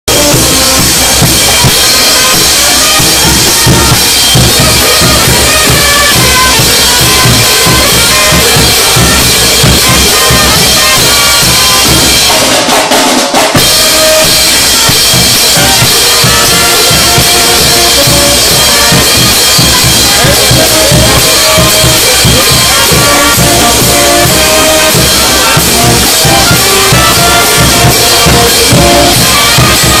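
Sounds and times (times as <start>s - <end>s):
brass band playing: 0.1s - 30.0s.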